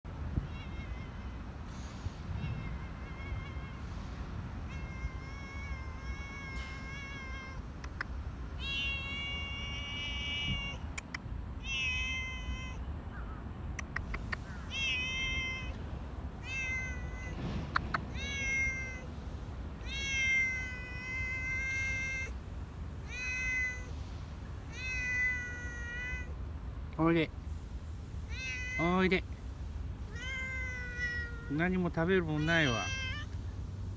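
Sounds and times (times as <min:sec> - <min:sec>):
cat meowing: 0:00.3 - 0:15.8, 0:16.4 - 0:19.2, 0:19.8 - 0:22.4, 0:23.0 - 0:23.9, 0:24.6 - 0:26.4, 0:28.3 - 0:29.2, 0:30.0 - 0:33.4.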